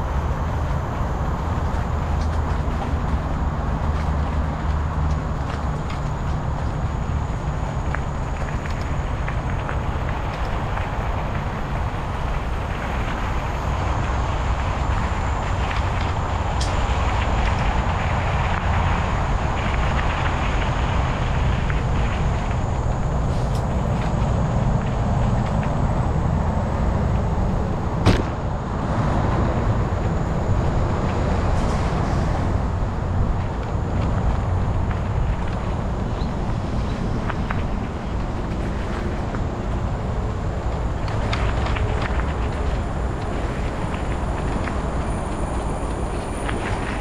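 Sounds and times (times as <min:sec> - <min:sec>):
bicycle tyres rumbling on gravel: 0:00.0 - 0:47.0
wind buffeting microphone: 0:00.0 - 0:47.0.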